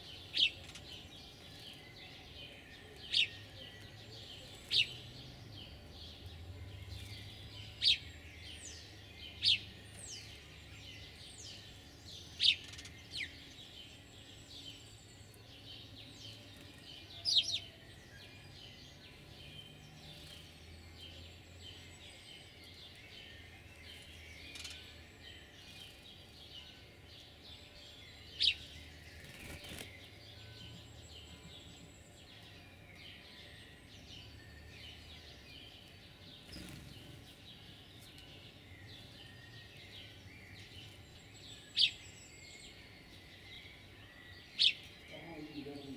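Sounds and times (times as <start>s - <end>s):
faint birdsong chorus: 0.0s - 45.9s.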